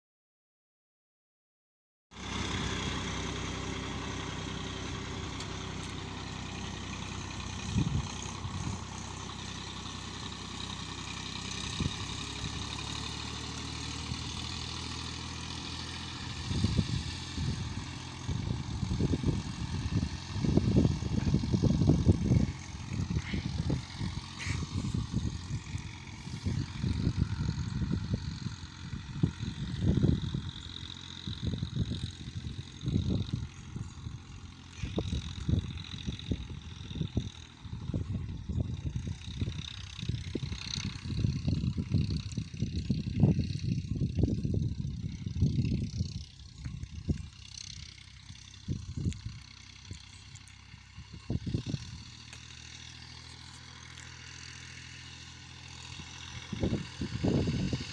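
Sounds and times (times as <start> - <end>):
tractor diesel engine running: 2.1 - 57.9
low rumbles: 2.2 - 57.9.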